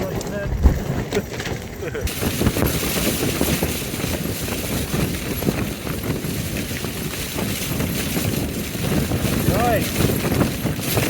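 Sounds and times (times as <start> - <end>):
tent fabric flapping in wind: 0.0 - 11.0
wind roaring: 0.0 - 11.0.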